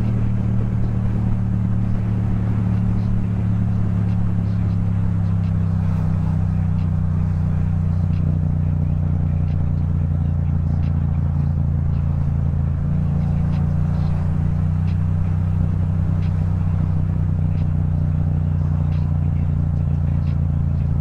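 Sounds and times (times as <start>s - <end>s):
motorcycle engine running steadily: 0.0s - 21.0s.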